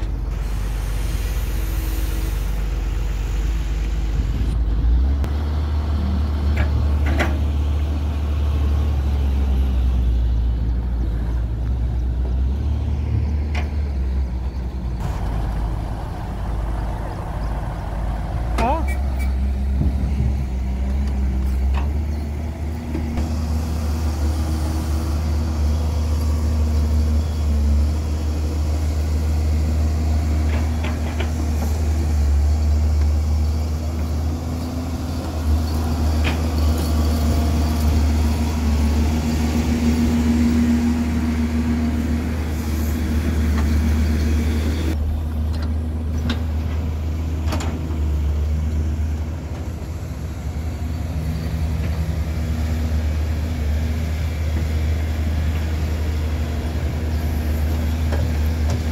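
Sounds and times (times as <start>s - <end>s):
excavator diesel engine rumbling: 0.0s - 58.9s.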